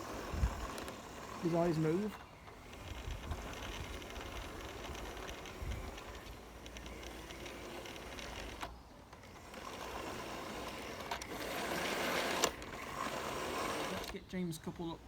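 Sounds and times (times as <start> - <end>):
toy train motor whirring: 0.0 - 15.0
wheels clicking on track: 0.0 - 15.0.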